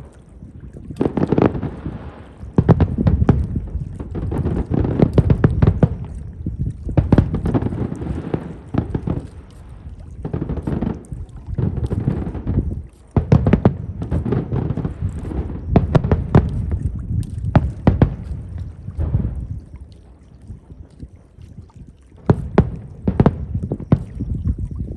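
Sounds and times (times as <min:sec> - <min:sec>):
fireworks bursting and crackling: 0:01.0 - 0:19.6, 0:22.2 - 0:24.3.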